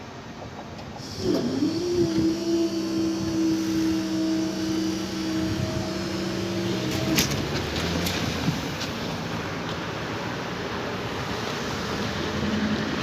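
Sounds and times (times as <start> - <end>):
electric train hum: 0.0 - 13.0
train rumble: 0.0 - 13.0.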